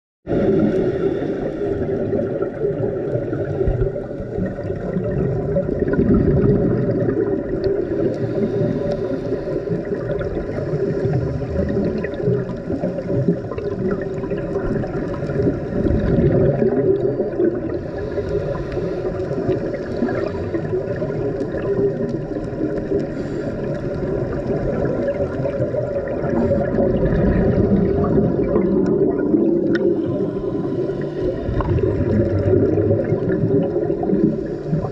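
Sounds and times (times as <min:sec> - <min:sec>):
muffled underwater rush: 0:00.3 - 0:34.9
regulator bubbles gurgling: 0:00.3 - 0:34.9.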